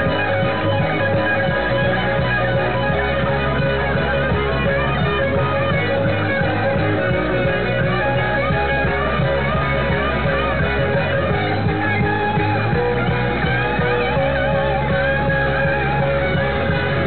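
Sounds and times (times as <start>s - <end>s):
lead guitar bending notes: 0.0s - 17.0s
rock band playing: 0.0s - 17.0s.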